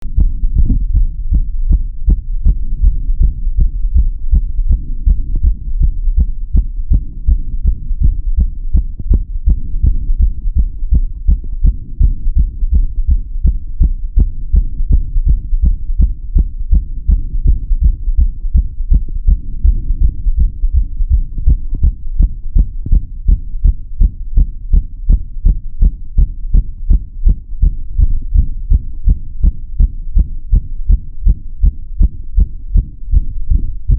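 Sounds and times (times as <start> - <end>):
heartbeat thumps: 0.0 - 33.9
low rumble: 0.0 - 33.9.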